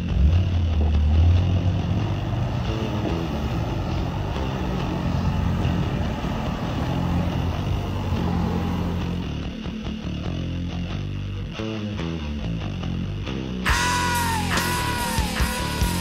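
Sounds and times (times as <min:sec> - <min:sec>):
off-road vehicle engine rumbling: 0:00.0 - 0:16.0.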